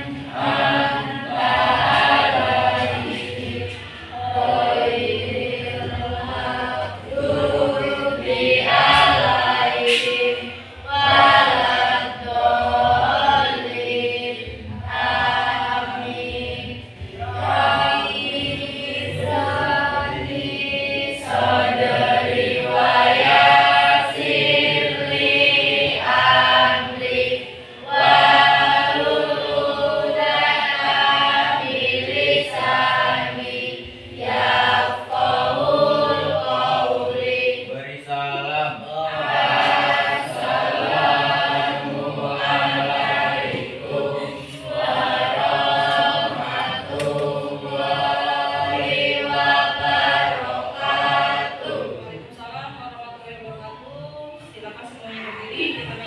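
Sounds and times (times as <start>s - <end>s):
children singing in unison: 0.0s - 52.4s.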